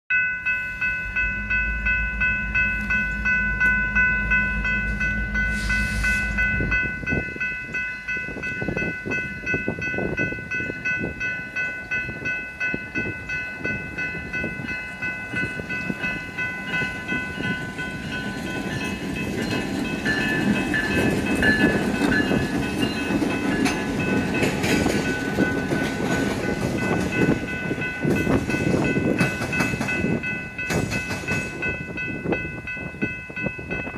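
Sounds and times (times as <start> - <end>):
diesel locomotives rumbling: 0.1 - 33.9.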